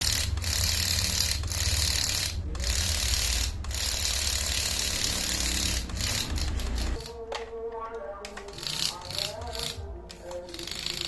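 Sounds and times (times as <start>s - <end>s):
model engine rattling buzz: 0.0s - 7.2s, 8.5s - 11.0s.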